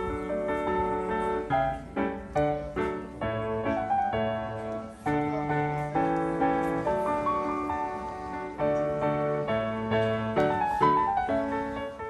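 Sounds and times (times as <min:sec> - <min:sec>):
gentle piano tune: 0:00.0 - 0:12.0.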